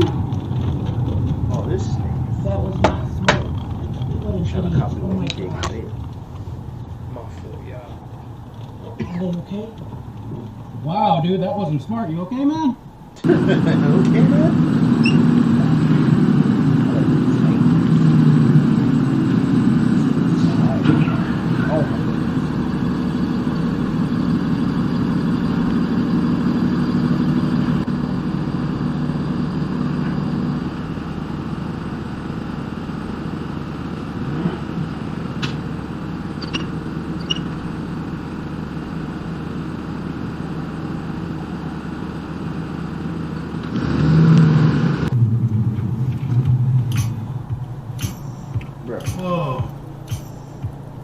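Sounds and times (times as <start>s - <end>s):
car engine and road noise: 0.0s - 51.0s.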